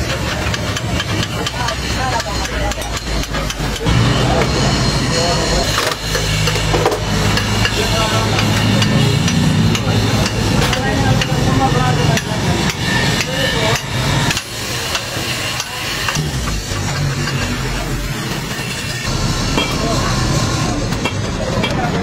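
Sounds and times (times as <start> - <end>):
hammer striking metal: 0.0 - 20.1.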